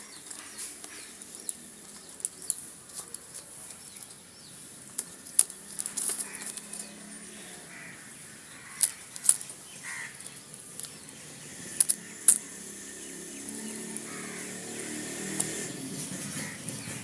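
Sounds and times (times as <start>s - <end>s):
pigeons: 0.0s - 17.0s.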